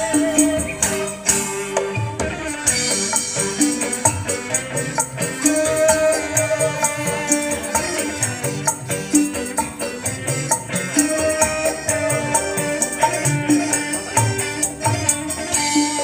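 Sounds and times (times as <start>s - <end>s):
music with fast percussion beat: 0.0s - 16.0s.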